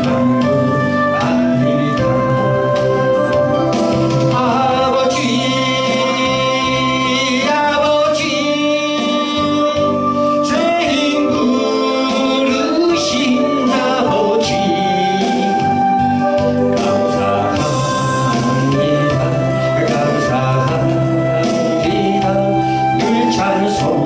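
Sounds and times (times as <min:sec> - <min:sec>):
instrumental accompaniment: 0:00.0 - 0:24.0
person singing gospel: 0:00.0 - 0:24.0.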